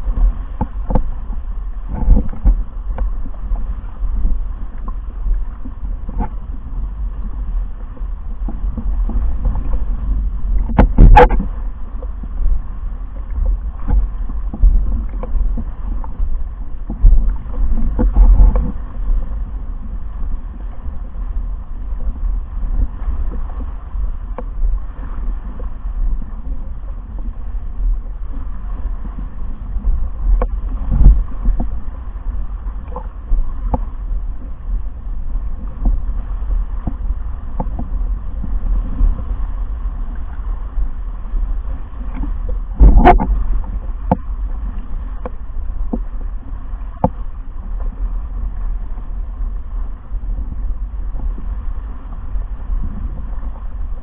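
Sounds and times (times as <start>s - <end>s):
water rushing past board: 0.0s - 54.0s
wind buffeting microphone: 0.0s - 54.0s.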